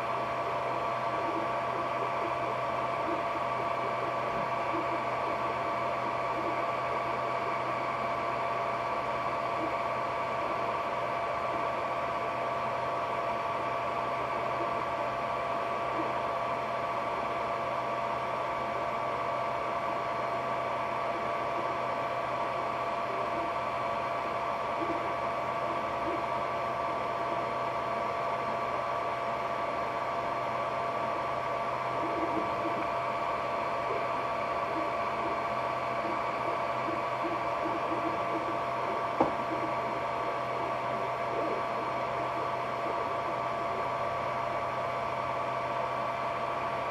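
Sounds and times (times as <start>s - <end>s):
printer mechanical whine: 0.0s - 46.9s.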